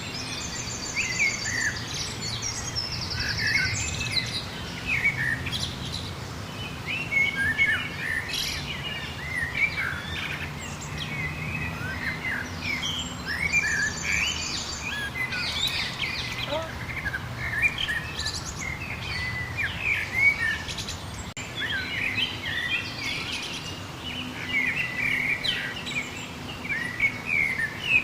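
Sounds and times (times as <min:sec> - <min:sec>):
birds singing and chirping: 0:00.0 - 0:28.0.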